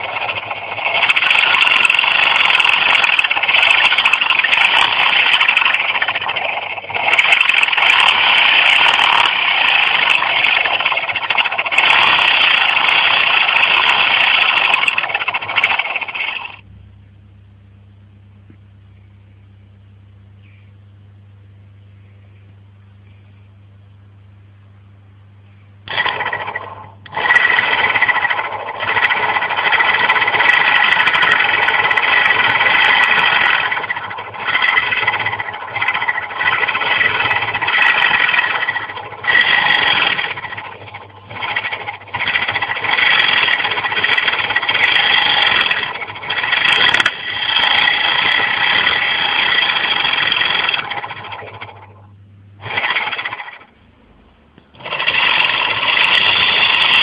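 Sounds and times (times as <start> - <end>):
electric motor rattling buzz: 0.0 - 16.7, 25.8 - 53.8, 54.6 - 57.0.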